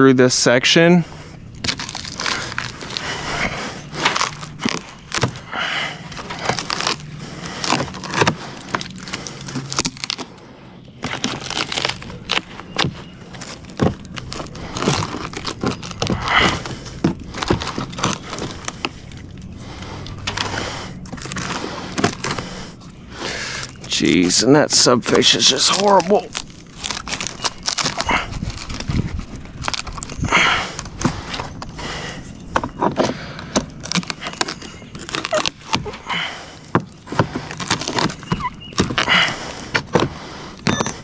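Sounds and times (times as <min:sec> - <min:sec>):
rotted wood cracking and scraping: 0:00.0 - 0:41.0.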